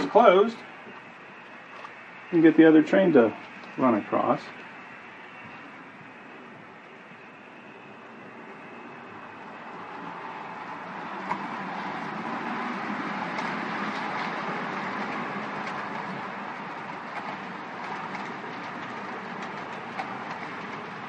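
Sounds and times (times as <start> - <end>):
model train whirring rumble: 0.0 - 21.0
wheels clicking over rail joints: 0.0 - 21.0.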